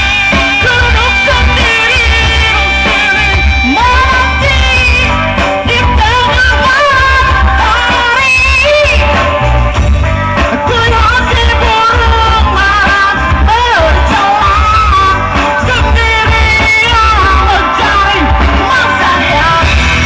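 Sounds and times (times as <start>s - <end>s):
band playing live: 0.0s - 20.0s
drums: 0.0s - 20.0s.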